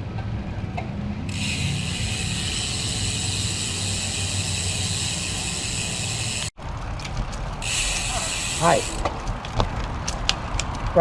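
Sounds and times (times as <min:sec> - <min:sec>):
bicycle tyre rumble: 0:00.4 - 0:11.0
wind hiss: 0:01.3 - 0:11.0.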